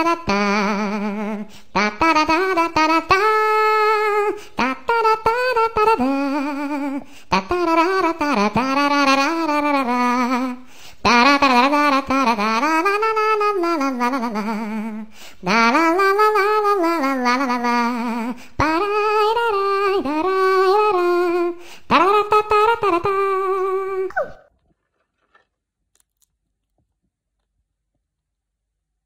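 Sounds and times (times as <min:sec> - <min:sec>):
person singing wordless tune: 0:00.0 - 0:24.4.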